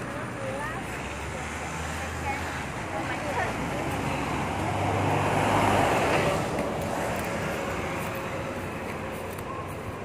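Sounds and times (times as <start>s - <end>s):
bus passing by: 0.0s - 10.0s.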